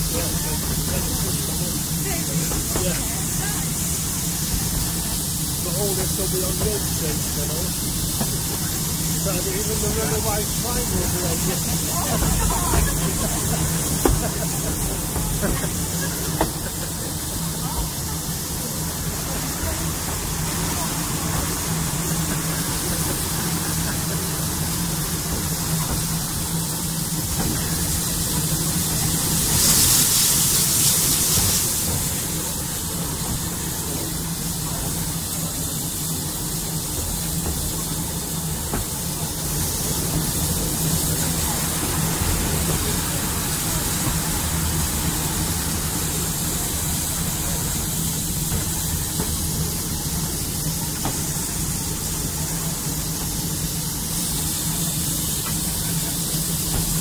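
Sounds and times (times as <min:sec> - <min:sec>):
rush of steam hiss: 0:00.0 - 0:57.0
steam locomotive hiss and rumble: 0:00.0 - 0:57.0.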